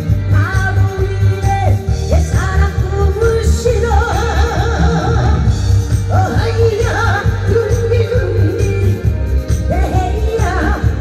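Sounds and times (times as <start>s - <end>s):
backing track with bass beat: 0.0s - 11.0s
woman singing into microphone: 0.0s - 11.0s.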